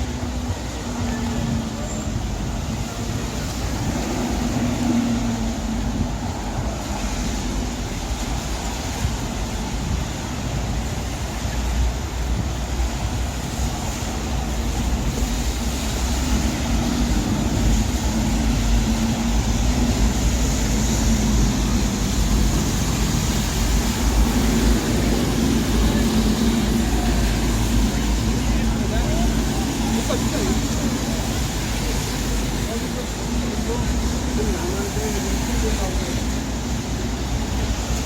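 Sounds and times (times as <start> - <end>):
traffic on wet roads: 0.0 - 38.0.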